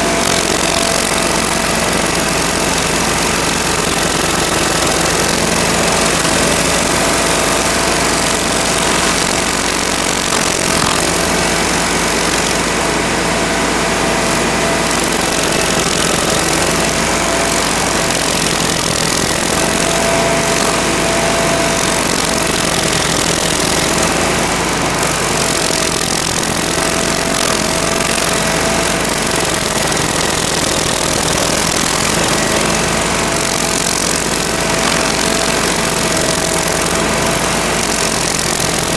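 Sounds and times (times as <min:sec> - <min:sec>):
cutting wheel grinding wood: 0:00.0 - 0:38.9
stump grinder engine: 0:00.0 - 0:38.9.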